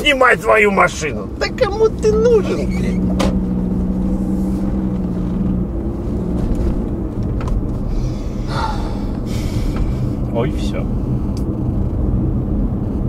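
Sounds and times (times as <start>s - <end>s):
steady hum: 0.0s - 11.8s
car engine and road noise: 0.0s - 13.0s.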